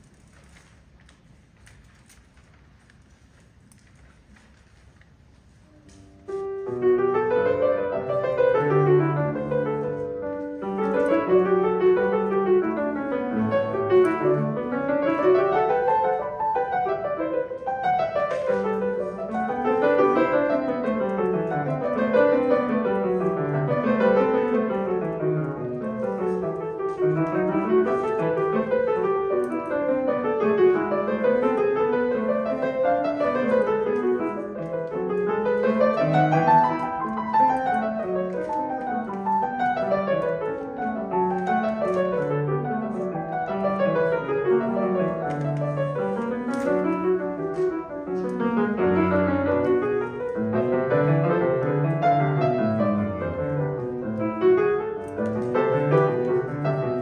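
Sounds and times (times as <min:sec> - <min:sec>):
grand piano playing: 0:06.2 - 0:57.0.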